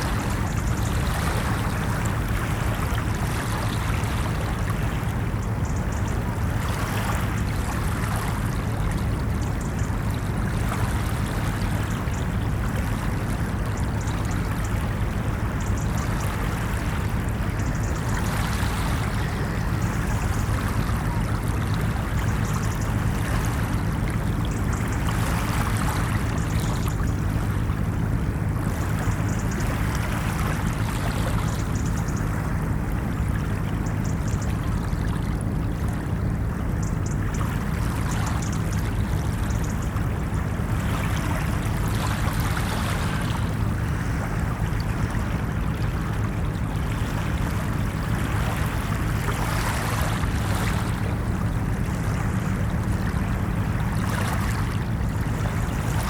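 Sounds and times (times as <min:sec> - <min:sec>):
ocean surf on beach: 0:00.0 - 0:56.0.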